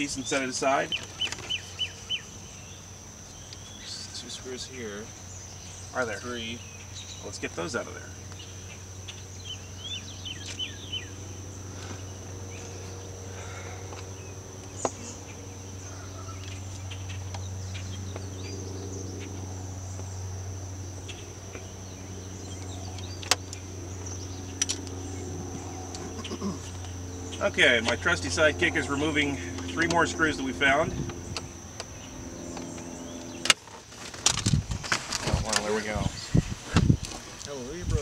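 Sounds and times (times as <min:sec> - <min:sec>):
insects droning: 0:00.0 - 0:38.0
low steady hum: 0:00.0 - 0:38.0.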